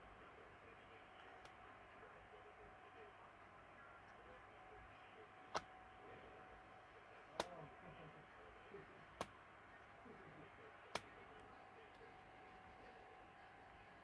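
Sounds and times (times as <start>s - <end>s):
faint room noise: 0.0s - 14.0s.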